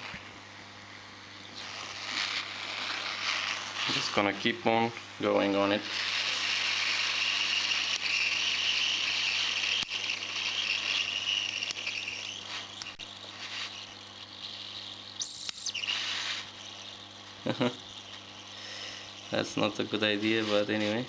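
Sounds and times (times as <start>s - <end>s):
hot air station hissing: 0.0s - 21.0s.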